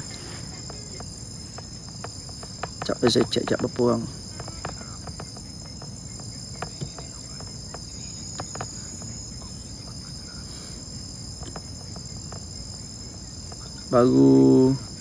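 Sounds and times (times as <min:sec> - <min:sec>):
low background rumble: 0:00.0 - 0:15.0
night insects chirring: 0:00.0 - 0:15.0.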